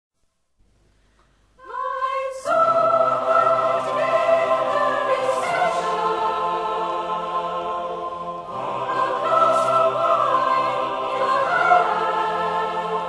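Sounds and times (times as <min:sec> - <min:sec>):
choir singing unaccompanied: 0:01.6 - 0:13.0.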